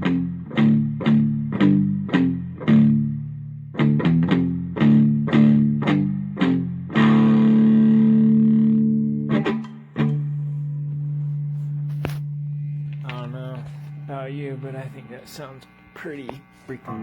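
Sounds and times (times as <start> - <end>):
overdriven electric guitar chords: 0.0 - 17.0.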